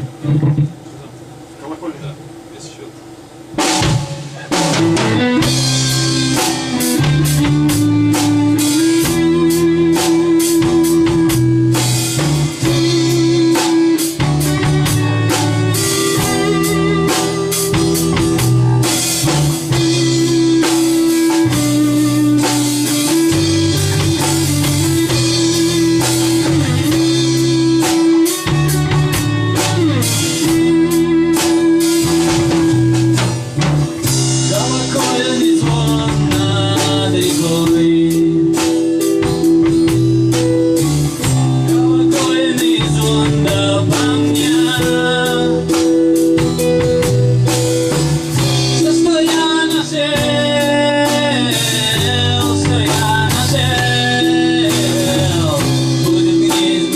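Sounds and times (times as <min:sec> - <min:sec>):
rock band playing: 0:03.3 - 0:56.9.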